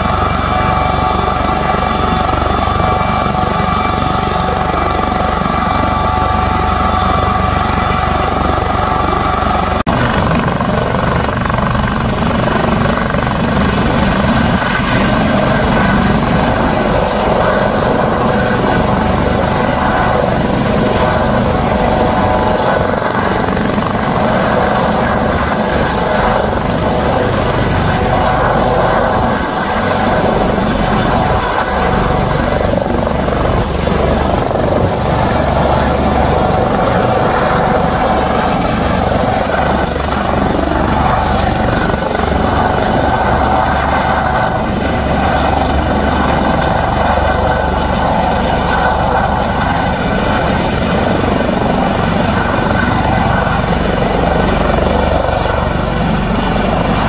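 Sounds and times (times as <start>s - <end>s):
helicopter rotors: 0.0s - 57.0s
helicopter turbine whine: 0.0s - 57.0s.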